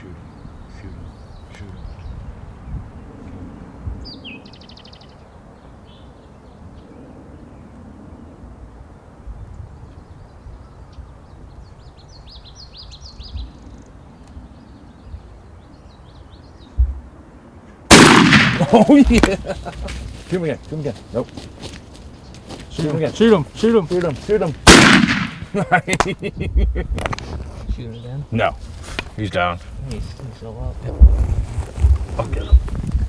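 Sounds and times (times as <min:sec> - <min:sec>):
outdoor background noise: 0:00.0 - 0:33.0
songbirds chirping: 0:00.0 - 0:33.0.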